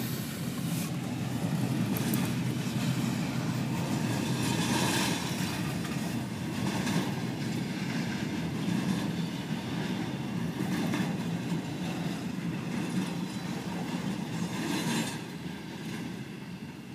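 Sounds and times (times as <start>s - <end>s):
train wheels clacking over rail joints: 0.0s - 16.2s
freight train rumble and hiss: 0.0s - 16.9s.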